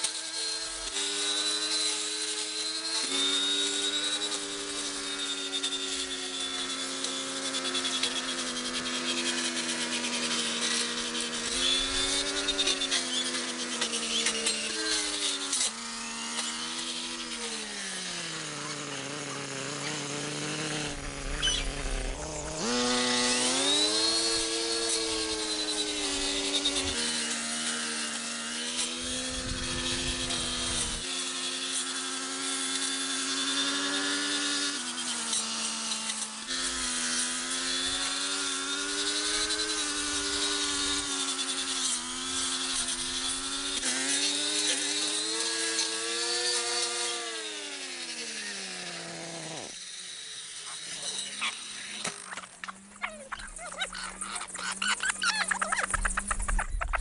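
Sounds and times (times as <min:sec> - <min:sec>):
chainsaw engine cutting: 0:00.0 - 0:57.0.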